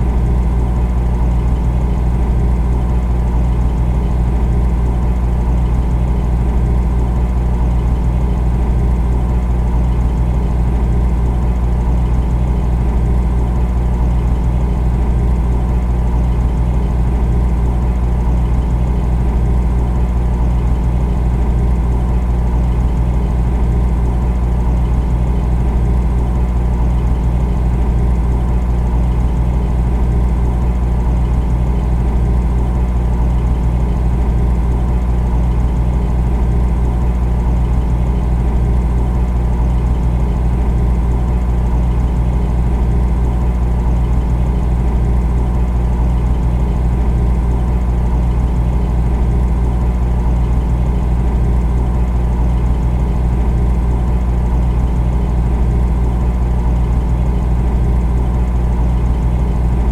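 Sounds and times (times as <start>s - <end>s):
faint buzzing hum: 0.0s - 59.9s
refrigerator compressor humming: 0.0s - 59.9s.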